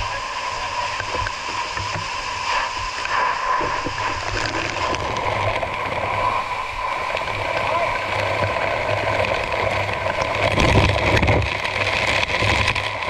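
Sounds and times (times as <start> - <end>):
water spraying: 0.0 - 13.0.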